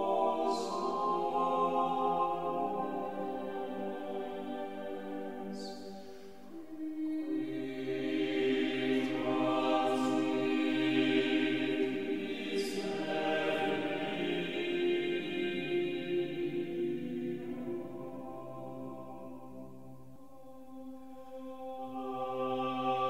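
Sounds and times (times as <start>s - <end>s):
choir singing slow chords: 0.0s - 23.0s.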